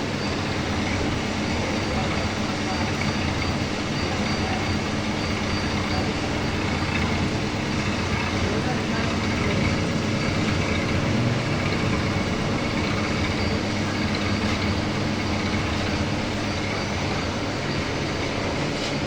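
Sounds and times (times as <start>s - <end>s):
milling machine humming: 0.0s - 19.0s.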